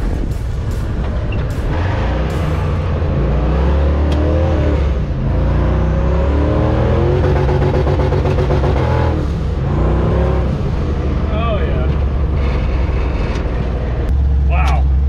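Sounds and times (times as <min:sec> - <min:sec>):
engine accelerating hard: 0:00.0 - 0:15.0.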